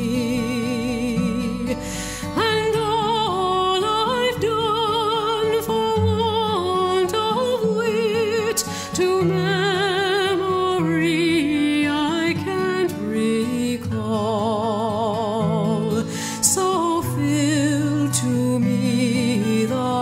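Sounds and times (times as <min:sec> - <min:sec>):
slow melody with vibrato: 0:00.0 - 0:20.0.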